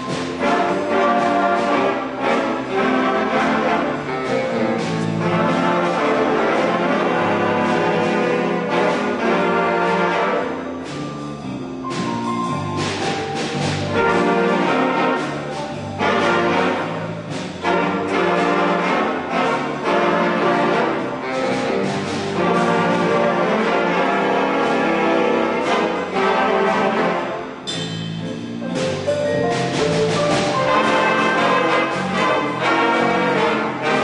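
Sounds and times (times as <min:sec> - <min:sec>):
big band brass playing: 0:00.0 - 0:34.0.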